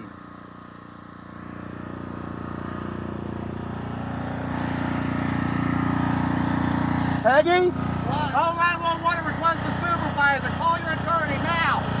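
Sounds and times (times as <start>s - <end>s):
engine running with low hum: 0.0s - 12.0s.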